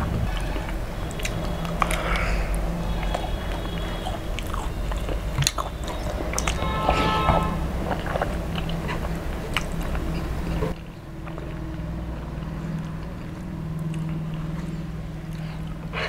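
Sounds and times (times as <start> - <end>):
mouth clicks and smacks: 0.0 - 16.0
steady low hum: 0.0 - 16.0
wet chewing and biting: 0.0 - 16.0.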